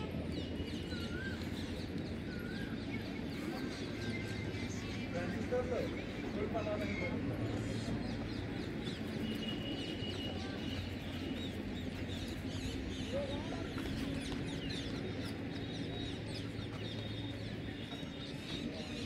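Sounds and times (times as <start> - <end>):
birds chirping: 0.0 - 19.0
steady background noise: 0.0 - 19.0.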